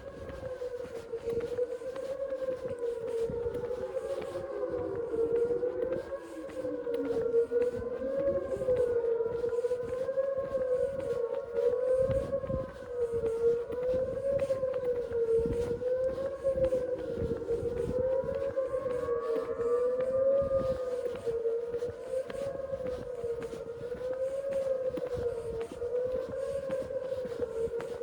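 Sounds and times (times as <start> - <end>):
lower siren tone sliding down: 0.0 - 28.0
warning sirens wavering: 0.0 - 28.0.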